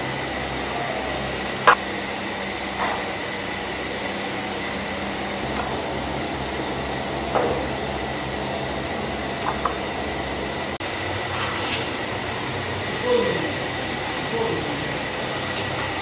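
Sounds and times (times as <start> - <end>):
kitchen equipment hum and hiss: 0.0 - 16.0.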